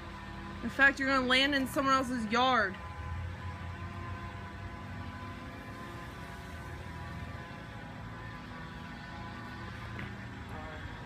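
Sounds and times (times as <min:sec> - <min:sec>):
small motor humming: 0:00.0 - 0:11.0.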